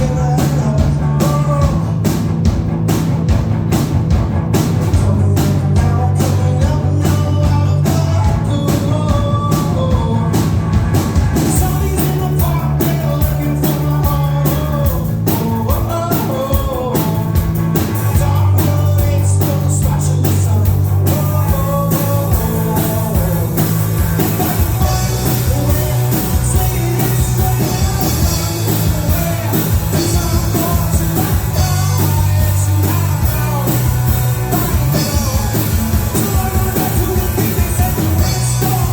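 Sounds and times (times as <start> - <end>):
person singing: 0.0 - 2.0, 4.9 - 10.6, 11.4 - 38.9
drums: 0.0 - 38.9
rock band playing live: 0.0 - 38.9.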